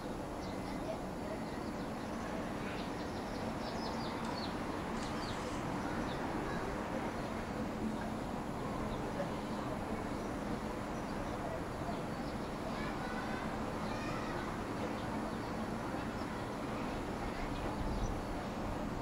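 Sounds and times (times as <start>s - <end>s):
distant town hum: 0.0s - 19.0s.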